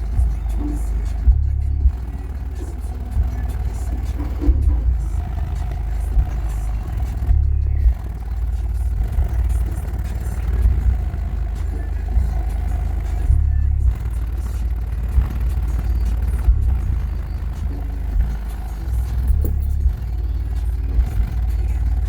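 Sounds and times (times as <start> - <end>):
subwoofer playing deep bass: 0.0 - 22.0.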